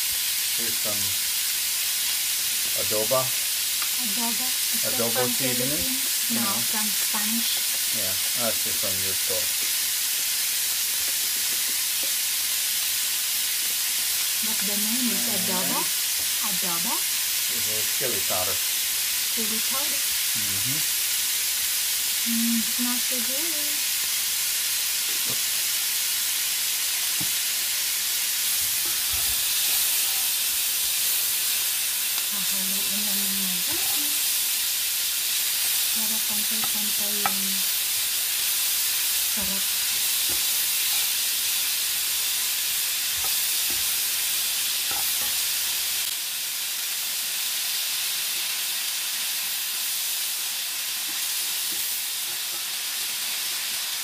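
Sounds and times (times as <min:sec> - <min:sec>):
meat and vegetables sizzling: 0:00.0 - 0:54.0.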